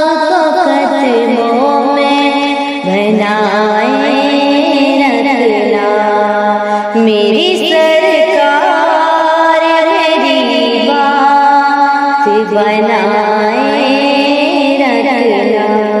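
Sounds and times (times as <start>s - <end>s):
steady held drone: 0.0s - 16.0s
wordless devotional singing: 0.0s - 16.0s.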